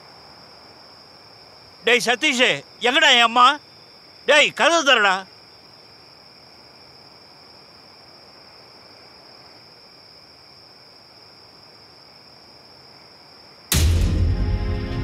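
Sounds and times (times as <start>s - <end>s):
crickets trilling: 0.0s - 13.8s.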